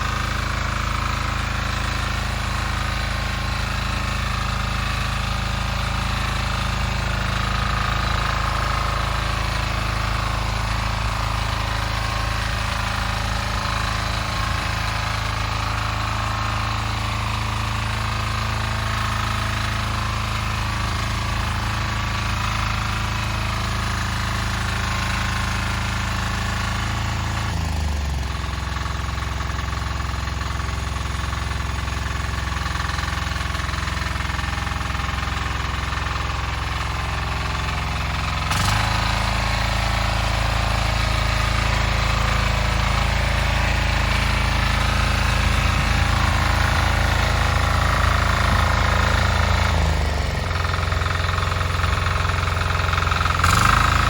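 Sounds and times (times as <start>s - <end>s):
diesel engine knocking beat: 0.0s - 54.0s.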